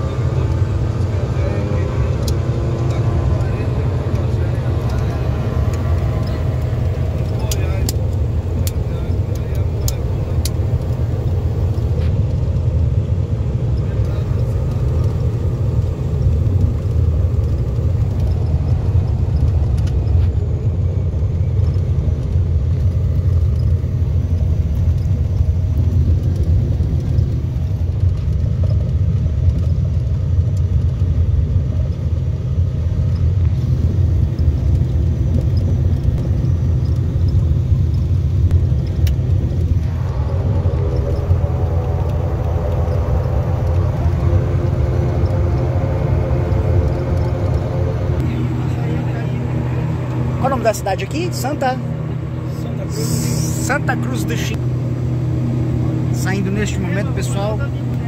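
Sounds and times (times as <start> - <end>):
high steady whine: 0.0 - 58.0
low engine rumble: 0.0 - 58.0.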